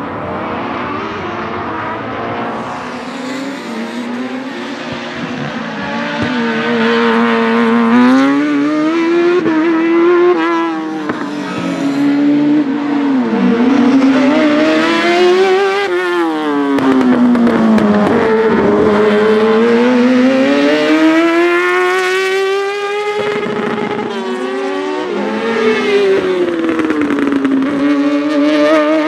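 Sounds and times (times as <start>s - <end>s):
race car engine revving hard: 0.1s - 29.0s.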